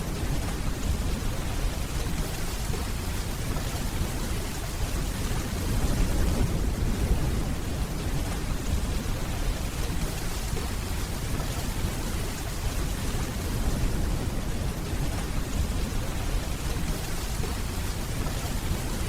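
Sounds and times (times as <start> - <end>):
rain hissing on hard surface: 0.0 - 19.0.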